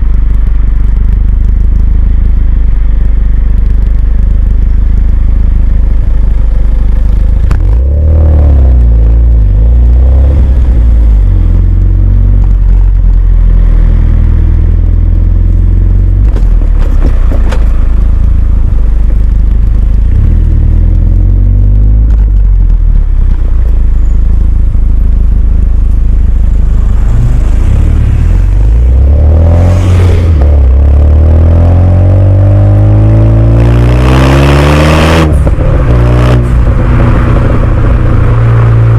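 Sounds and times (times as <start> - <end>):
car engine revving: 0.0 - 38.9
deep exhaust note: 0.0 - 38.9.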